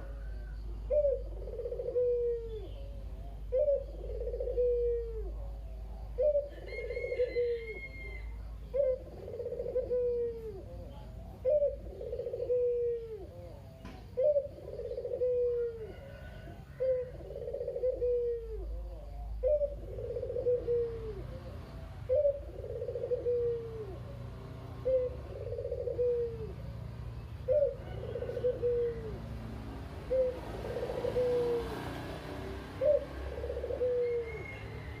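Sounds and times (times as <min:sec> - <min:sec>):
dove cooing: 0:00.0 - 0:35.0.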